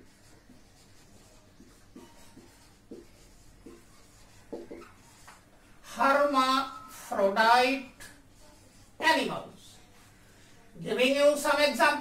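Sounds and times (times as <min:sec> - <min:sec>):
marker writing on whiteboard: 0:00.0 - 0:10.2.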